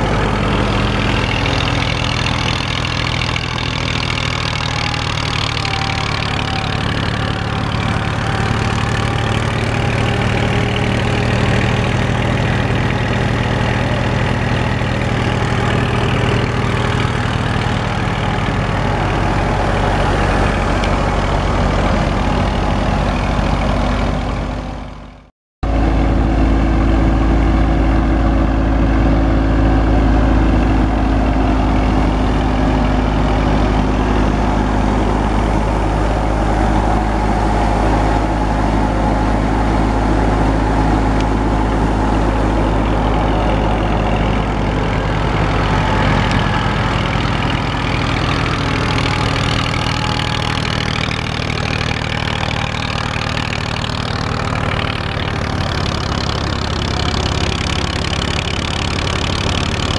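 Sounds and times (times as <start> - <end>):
thresher machinery turning: 0.0 - 24.6, 25.7 - 59.9
tractor diesel engine running: 0.0 - 59.9.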